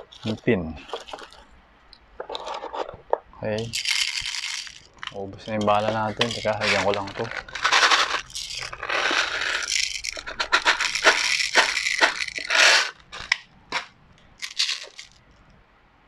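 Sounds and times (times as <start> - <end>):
plastic pellets rattling in bottle: 0.0 - 1.4, 3.6 - 15.2.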